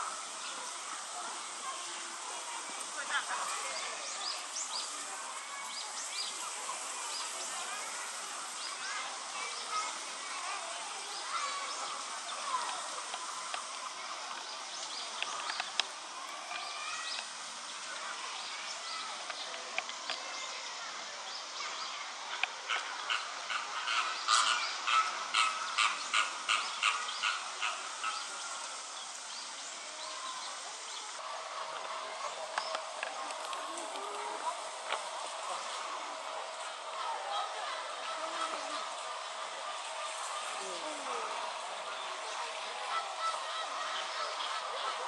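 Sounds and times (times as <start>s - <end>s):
small birds chirping: 0.0s - 45.0s
steady background hiss: 0.0s - 45.0s.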